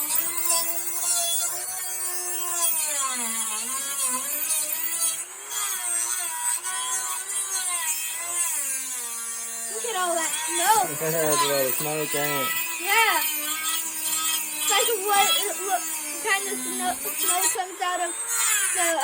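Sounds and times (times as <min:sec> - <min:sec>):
rotary tool cutting wood: 0:00.0 - 0:19.0.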